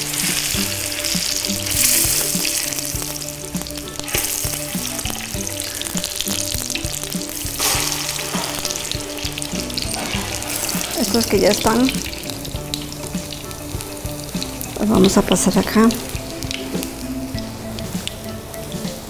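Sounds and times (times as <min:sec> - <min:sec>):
plantain frying in hot oil: 0:00.0 - 0:19.0.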